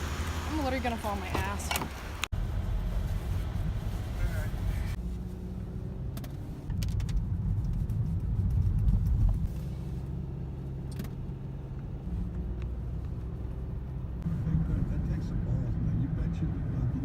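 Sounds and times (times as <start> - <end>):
car engine drone in cabin: 0.0 - 17.0
road rumble: 0.0 - 17.0.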